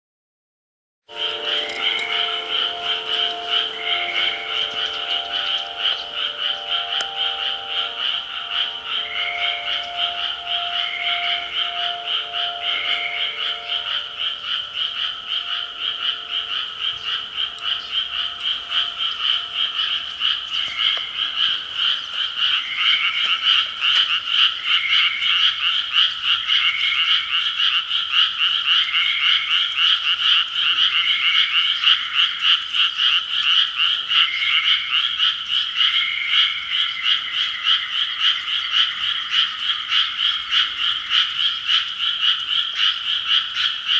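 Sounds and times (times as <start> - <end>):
frog chorus croaking: 1.1 - 43.9
single frog calls: 1.1 - 43.9.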